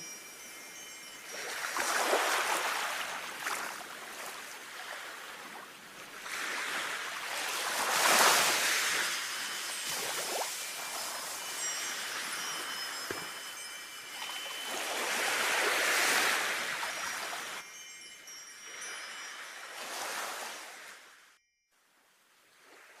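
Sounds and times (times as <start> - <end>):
wind chimes tinkling: 0.0 - 5.4, 6.3 - 21.9
sea waves washing in: 0.6 - 21.2.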